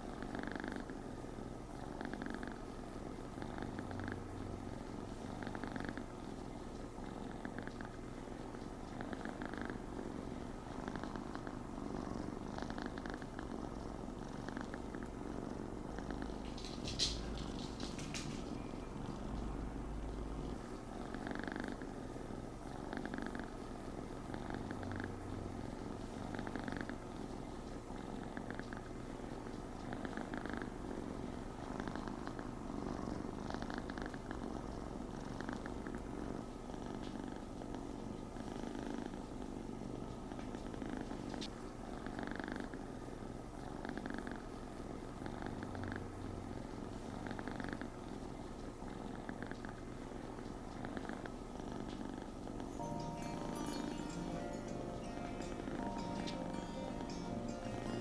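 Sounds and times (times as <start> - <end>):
cat purring: 0.0 - 42.9, 43.6 - 58.0.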